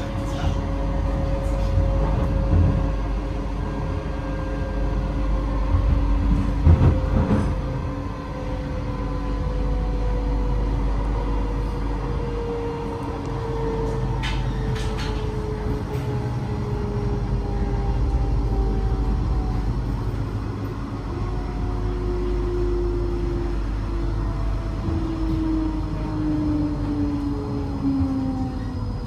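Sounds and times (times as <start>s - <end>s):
electric train rumble: 0.0s - 29.0s
falling train whine: 0.0s - 29.0s.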